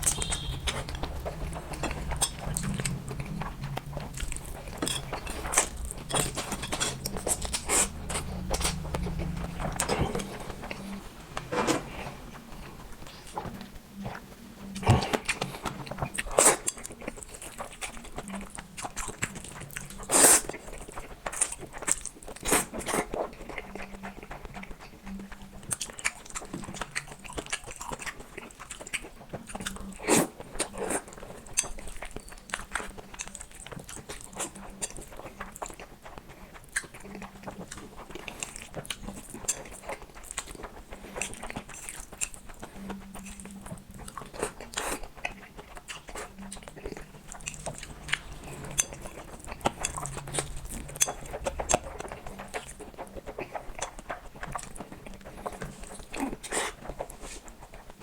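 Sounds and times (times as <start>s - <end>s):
chewing and biting noodles: 0.0s - 11.1s, 13.0s - 58.0s.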